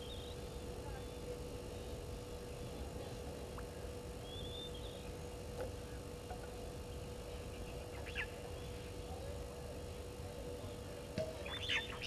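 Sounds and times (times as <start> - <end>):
birds calling: 0.0 - 9.1, 11.4 - 12.0
faint hum: 0.0 - 12.0
low outdoor rumble: 0.0 - 12.0.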